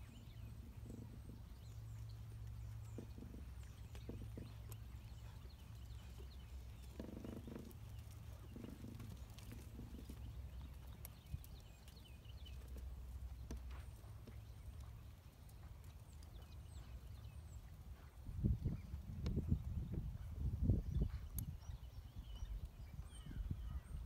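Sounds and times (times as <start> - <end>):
horse hoofbeats on sand: 0.1 - 23.4.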